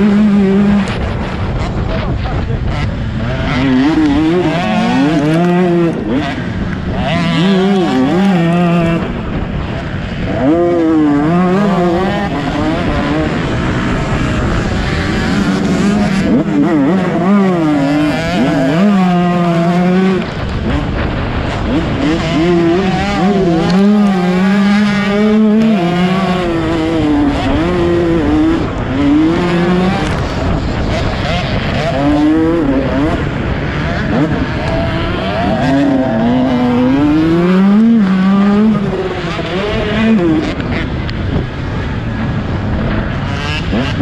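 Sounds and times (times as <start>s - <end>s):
motocross bike engine revving: 0.0s - 44.0s.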